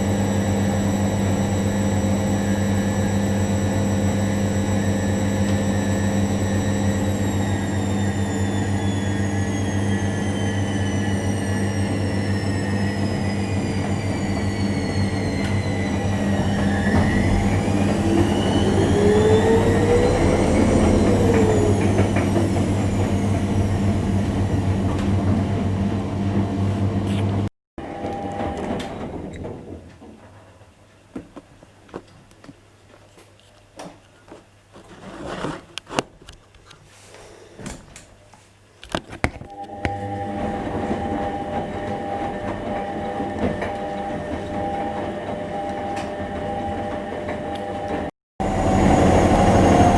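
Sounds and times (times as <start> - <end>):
washing machine running: 0.0 - 29.9, 39.5 - 49.9.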